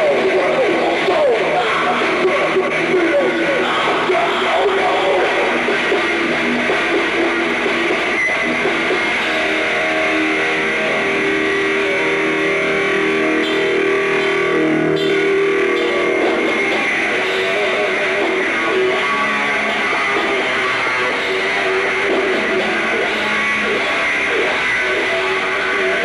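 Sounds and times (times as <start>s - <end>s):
bass guitar: 0.0s - 26.0s
electric guitar: 0.0s - 26.0s
heavy metal band playing live: 0.0s - 26.0s.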